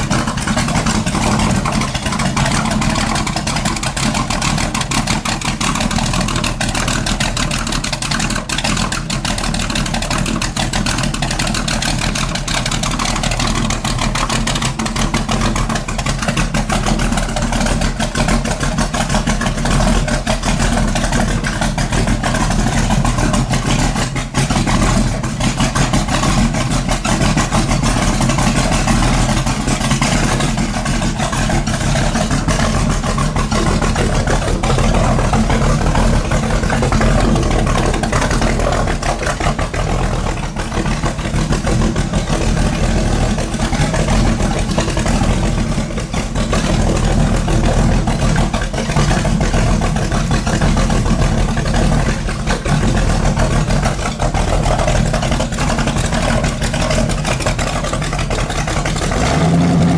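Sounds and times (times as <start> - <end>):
motorcycle engine running loudly: 0.0 - 59.9.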